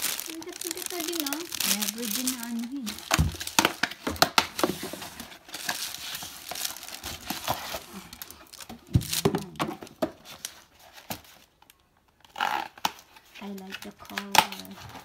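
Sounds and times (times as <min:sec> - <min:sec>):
cardboard rustling and crinkling: 0:00.0 - 0:11.6, 0:12.9 - 0:15.0.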